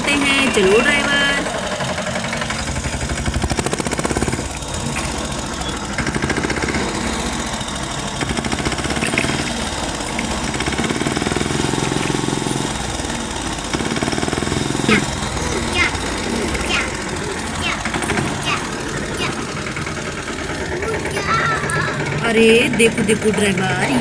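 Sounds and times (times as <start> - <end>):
tractor engine chugging: 0.0 - 24.0.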